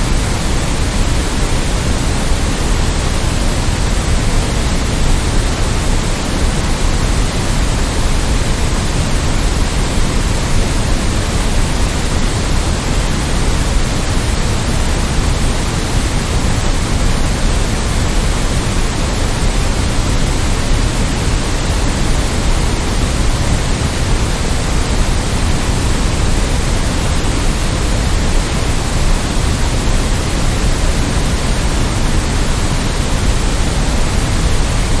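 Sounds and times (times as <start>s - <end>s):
steady hiss noise: 0.0s - 35.0s.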